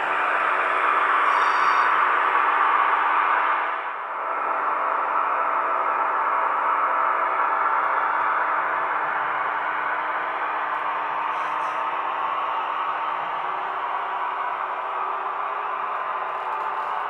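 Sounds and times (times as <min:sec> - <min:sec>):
model train diesel engine drone: 0:00.0 - 0:17.0.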